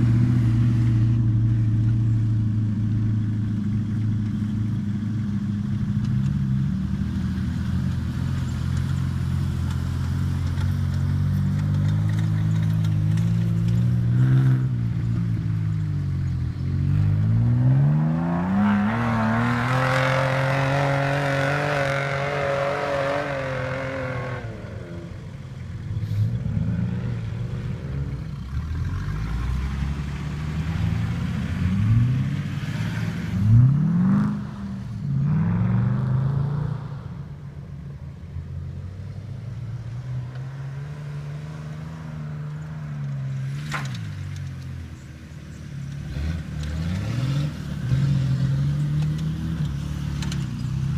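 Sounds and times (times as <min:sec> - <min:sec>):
off-road vehicle engine revving: 0:00.0 - 0:37.4, 0:38.8 - 0:50.9.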